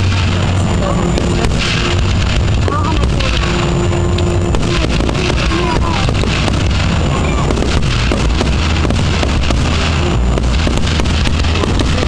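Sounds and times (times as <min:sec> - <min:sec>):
fireworks bursting and crackling: 0:00.0 - 0:12.0
steady low rumble: 0:00.0 - 0:12.0.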